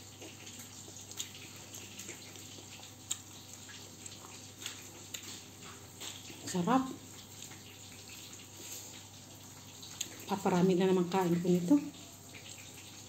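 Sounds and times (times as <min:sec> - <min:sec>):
chewing with mouth clicks: 0:00.0 - 0:10.6.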